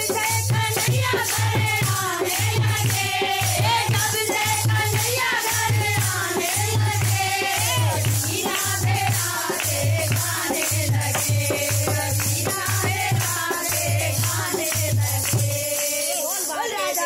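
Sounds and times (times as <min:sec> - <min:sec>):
jingling hand percussion: 0:00.0 - 0:17.0
women singing devotional song: 0:00.0 - 0:17.0.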